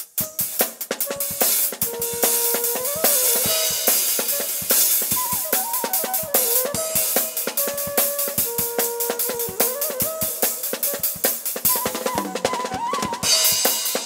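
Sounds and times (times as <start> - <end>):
drum kit fast beat: 0.0 - 14.0
flute melody: 0.2 - 14.0.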